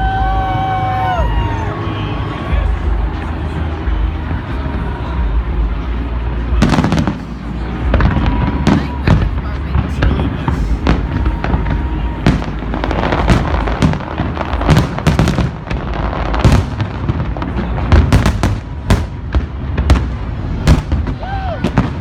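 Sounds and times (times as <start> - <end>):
fireworks crackling: 0.0 - 22.0
fireworks bursting with sharp bangs: 0.4 - 22.0.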